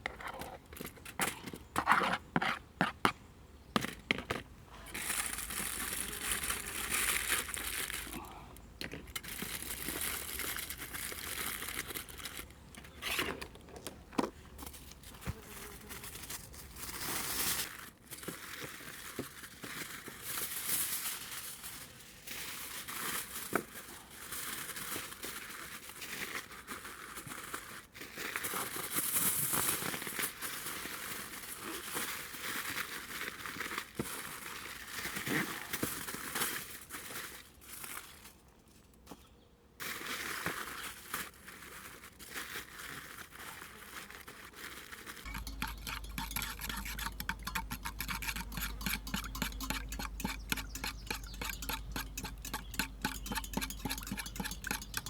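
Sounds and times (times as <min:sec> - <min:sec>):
rustling and crinkling: 0:03.8 - 0:49.6.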